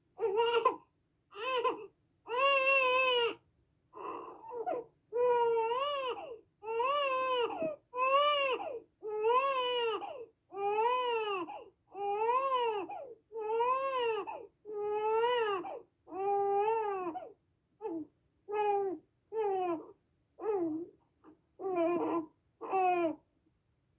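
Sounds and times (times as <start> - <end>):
infant crying: 0.2 - 3.4, 4.0 - 20.9, 21.6 - 23.2.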